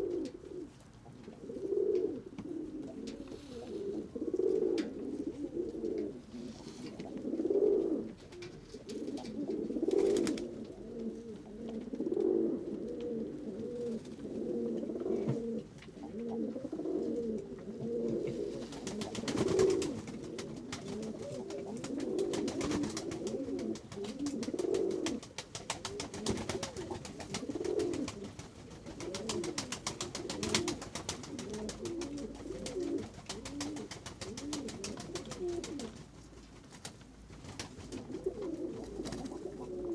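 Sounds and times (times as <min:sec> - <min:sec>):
pigeons cooing: 0:00.0 - 0:36.2, 0:37.2 - 0:39.9.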